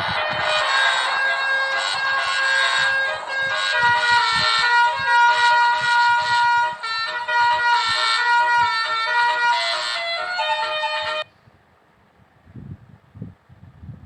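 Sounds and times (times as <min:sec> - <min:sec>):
bus horn trumpets playing tune: 0:00.0 - 0:11.3.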